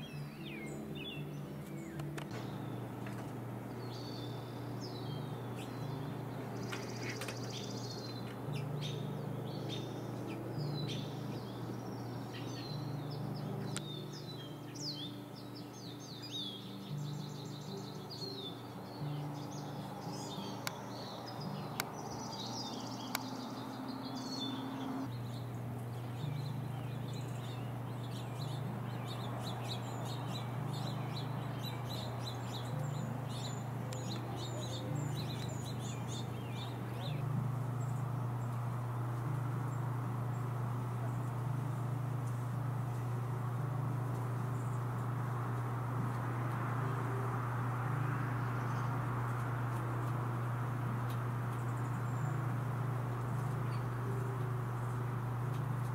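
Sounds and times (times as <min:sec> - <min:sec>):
birds chirping and trilling: 0:00.0 - 0:55.9
steady low hum: 0:00.0 - 0:55.9.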